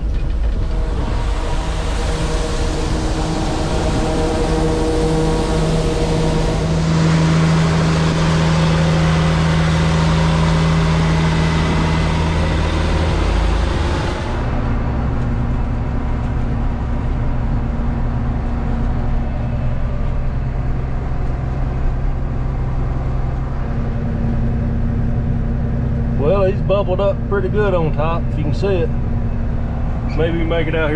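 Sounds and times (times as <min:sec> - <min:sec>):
dull steady engine drone: 0:00.0 - 0:30.9
tractor engine running under load: 0:00.0 - 0:30.9.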